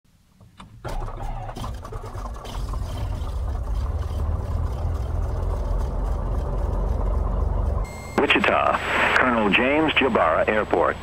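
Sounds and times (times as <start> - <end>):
piston aircraft engine starting: 0.6 - 10.7.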